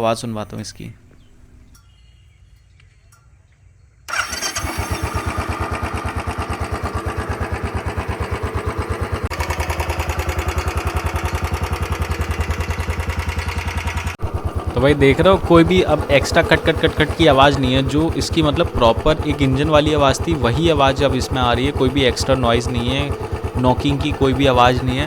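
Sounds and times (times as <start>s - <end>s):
motorcycle engine starting and idling: 4.0s - 25.0s.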